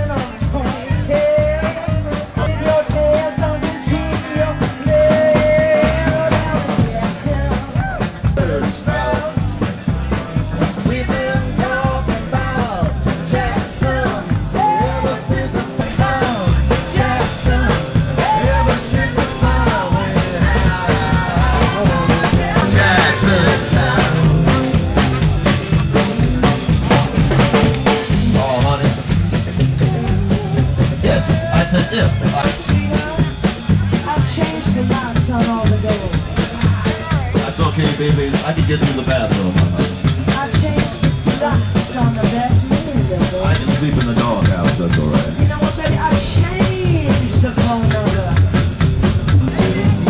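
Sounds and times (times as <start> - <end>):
drum kit beat: 0.0 - 50.0
upbeat rock music: 0.0 - 50.0.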